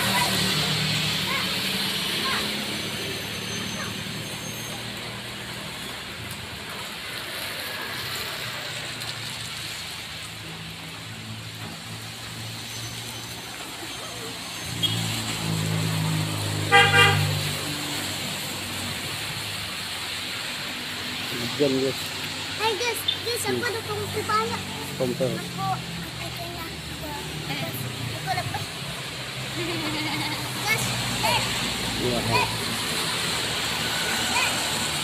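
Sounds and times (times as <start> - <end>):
heavy rain hissing: 0.0 - 35.0
vehicle passing on wet road: 0.0 - 35.0.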